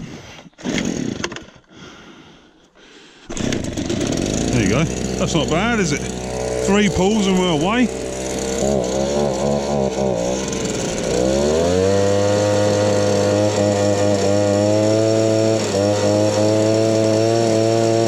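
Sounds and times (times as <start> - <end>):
leaf blower engine revving: 0.6 - 1.6, 3.2 - 18.0.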